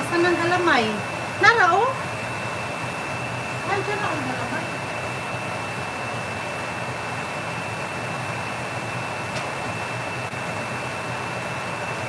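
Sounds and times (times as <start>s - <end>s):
faint high whine: 0.0s - 12.0s
water boiling hard in a pot: 0.0s - 12.0s.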